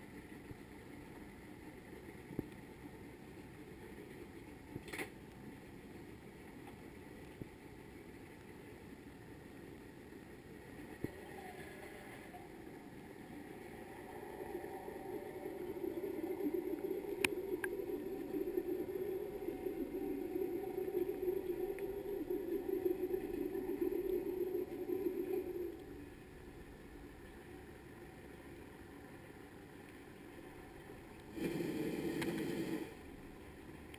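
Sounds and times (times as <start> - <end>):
muffled underwater machinery hum: 0.0 - 33.9.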